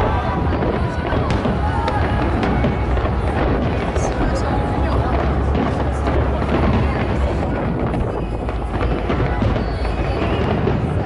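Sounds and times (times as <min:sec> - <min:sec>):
fireworks bursts: 0:00.0 - 0:11.0.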